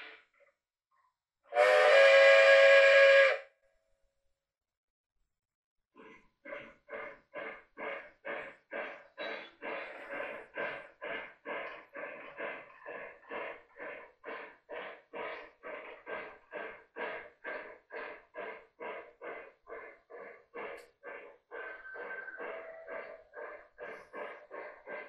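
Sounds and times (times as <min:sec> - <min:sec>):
model steam locomotive chuffing: 0:01.5 - 0:03.6, 0:06.0 - 0:25.0.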